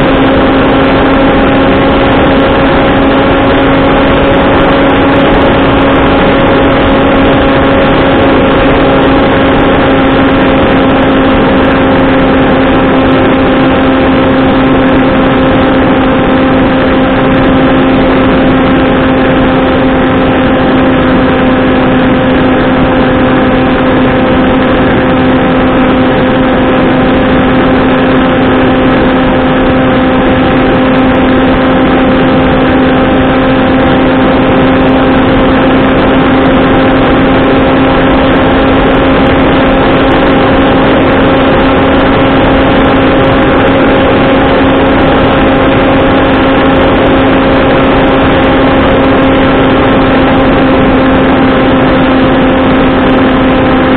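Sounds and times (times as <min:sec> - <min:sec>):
electric motor and propeller buzzing: 0:00.0 - 0:53.9.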